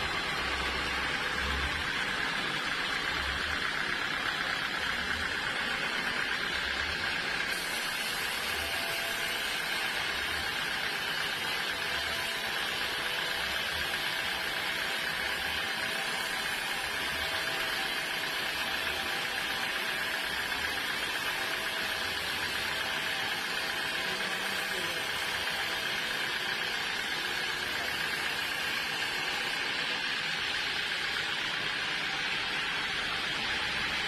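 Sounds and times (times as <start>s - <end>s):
sawmill machinery whine: 0.0s - 34.0s.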